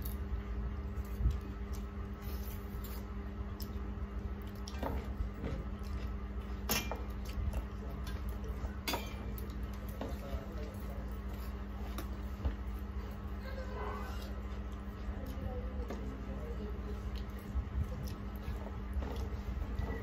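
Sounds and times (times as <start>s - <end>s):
steady low hum: 0.0s - 20.0s
fingers squishing rice and curry: 0.5s - 20.0s.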